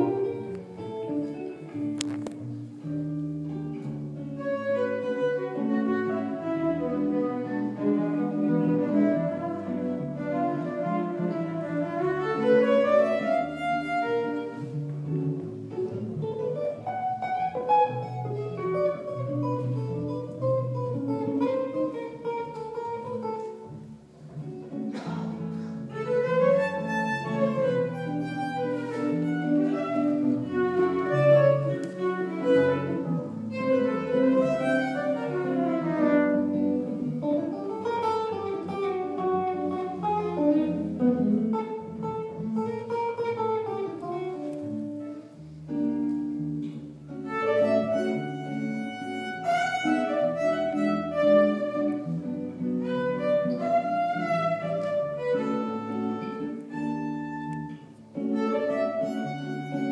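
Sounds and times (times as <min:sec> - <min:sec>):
violin melody with sliding notes: 0:00.0 - 0:24.8, 0:25.5 - 0:59.9
plucked guitar accompaniment: 0:00.0 - 0:59.9.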